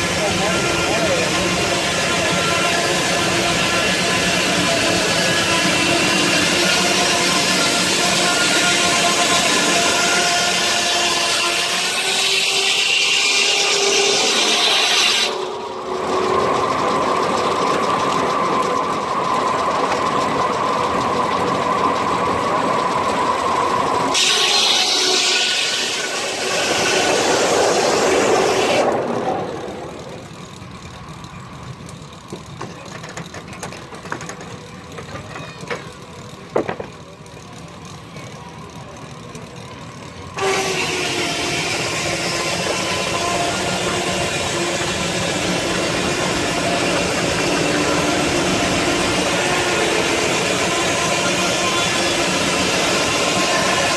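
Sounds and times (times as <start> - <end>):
sawmill running with ringing tone: 0.0 - 53.9.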